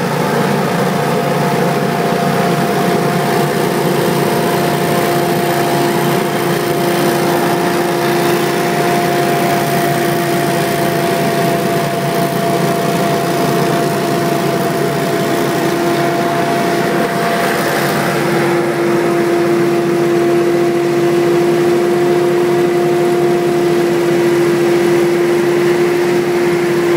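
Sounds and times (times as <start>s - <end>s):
leaf blower running: 0.0s - 26.9s.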